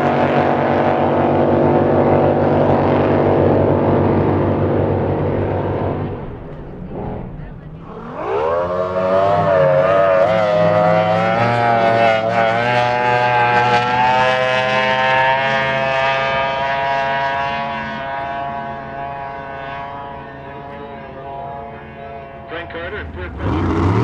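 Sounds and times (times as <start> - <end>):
boat engine at full throttle: 0.0 - 24.0.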